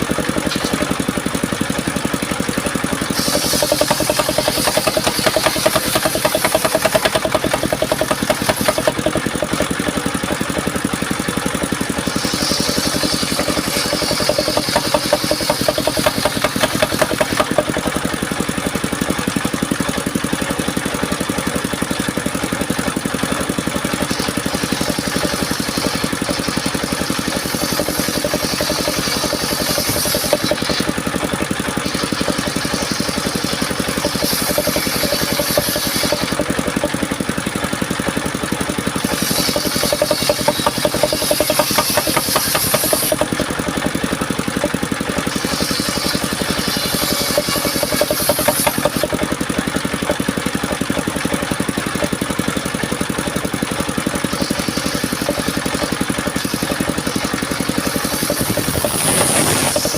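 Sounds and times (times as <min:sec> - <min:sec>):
saw blade cutting wood: 0:00.0 - 0:59.9
sawmill engine running: 0:00.0 - 0:59.9.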